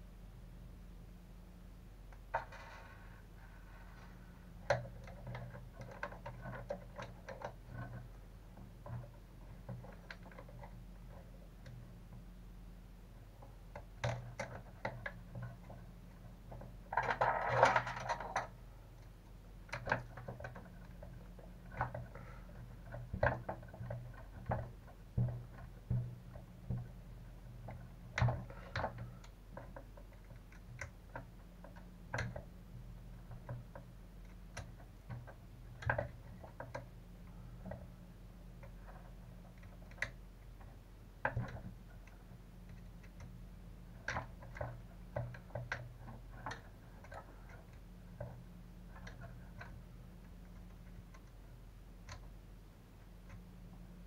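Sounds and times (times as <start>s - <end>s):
small plastic parts clicking: 4.7s - 12.2s, 13.4s - 52.4s.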